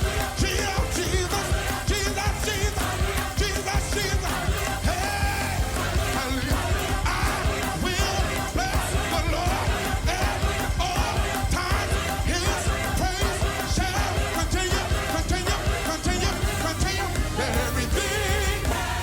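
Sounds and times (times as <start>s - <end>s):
gospel choir singing: 0.0s - 19.0s
live band with heavy bass: 0.0s - 19.0s.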